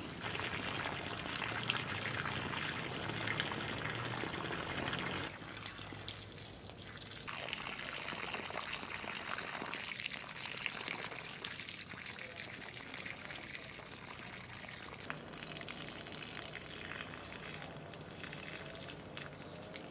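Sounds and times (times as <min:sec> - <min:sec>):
hose water splashing into soil: 0:00.0 - 0:19.9.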